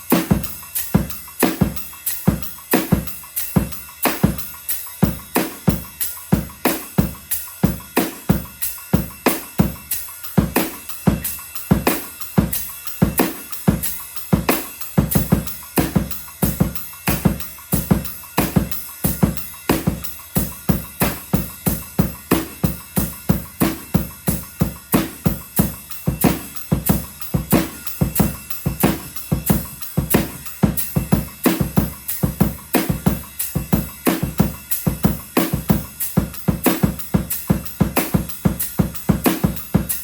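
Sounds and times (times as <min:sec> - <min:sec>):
ride cymbal: 0:00.0 - 0:40.0.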